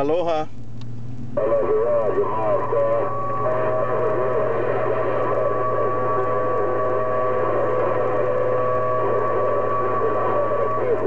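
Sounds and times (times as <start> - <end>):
radio static and hum: 1.3 - 11.0.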